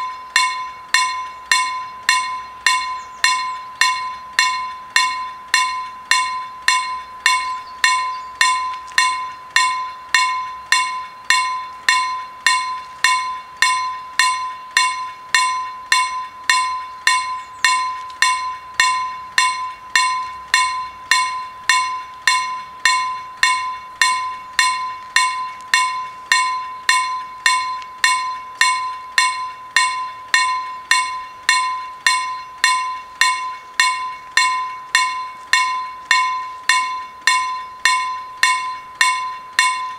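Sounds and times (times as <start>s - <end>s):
level-crossing warning bell: 0.0s - 39.9s.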